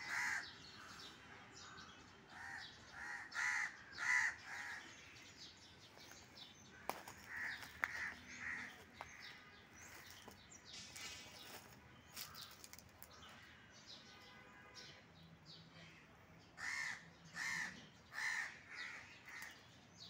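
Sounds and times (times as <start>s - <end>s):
loud bird calls: 0.0s - 15.0s, 15.6s - 20.0s.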